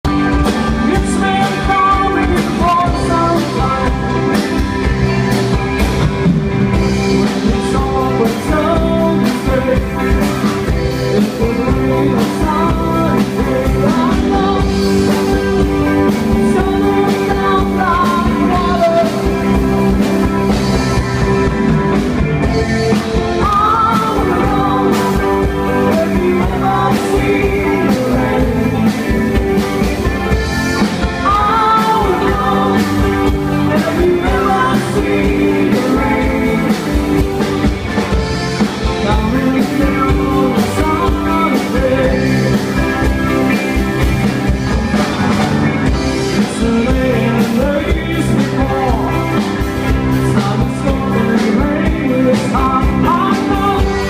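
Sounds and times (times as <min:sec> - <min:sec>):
person singing: 0:00.0 - 0:05.0, 0:06.7 - 0:21.7, 0:22.4 - 0:44.0, 0:45.8 - 0:54.0
guitars: 0:00.0 - 0:54.0.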